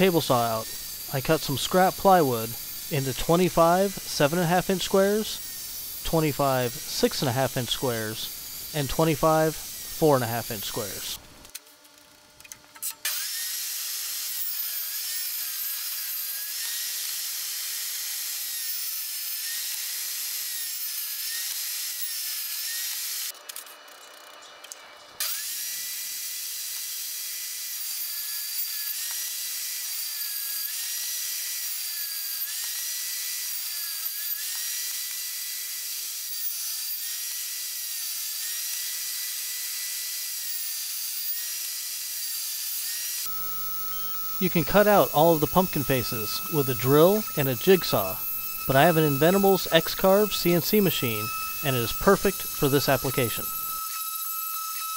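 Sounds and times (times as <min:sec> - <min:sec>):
table saw cutting plywood: 0:00.0 - 0:11.2, 0:13.1 - 0:23.3, 0:25.2 - 0:54.9.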